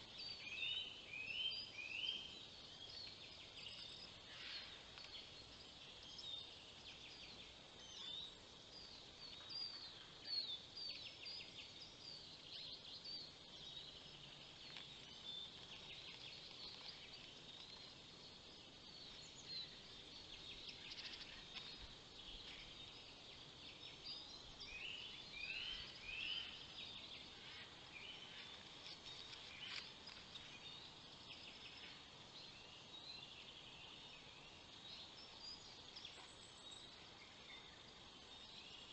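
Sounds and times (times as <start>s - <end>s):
soft steady hiss: 0.0s - 38.9s
songbirds chirping and trilling: 0.0s - 38.9s.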